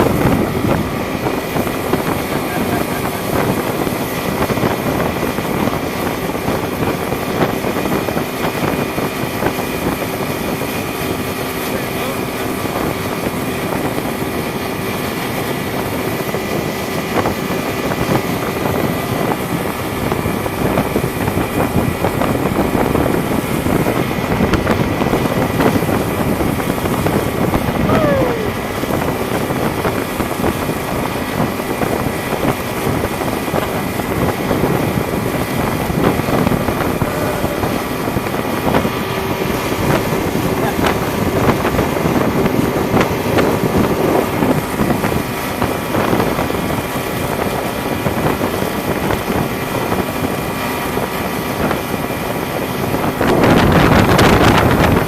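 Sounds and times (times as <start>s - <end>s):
motorboat engine running: 0.0s - 55.0s
wind on microphone: 0.0s - 55.0s.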